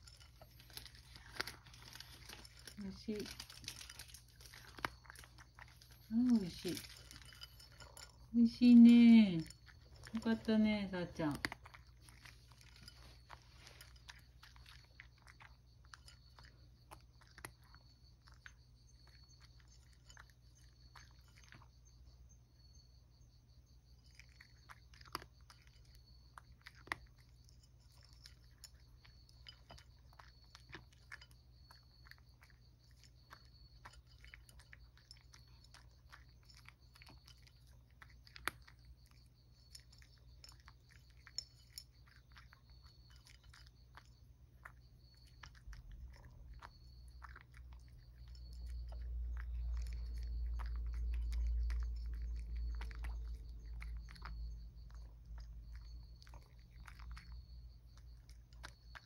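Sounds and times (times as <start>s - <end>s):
cat crunching treats: 0.0s - 21.9s, 23.8s - 59.0s.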